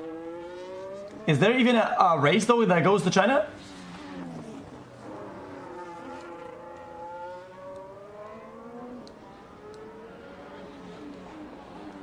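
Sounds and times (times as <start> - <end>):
race car engine at high revs: 0.0 - 1.9, 3.0 - 12.0.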